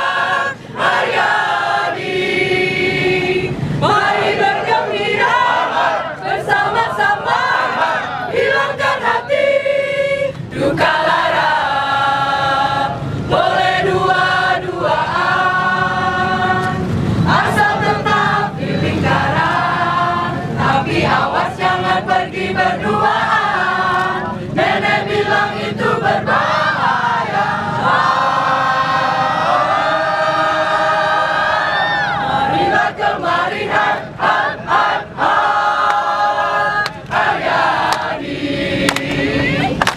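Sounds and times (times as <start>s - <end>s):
choir singing: 0.0s - 39.8s.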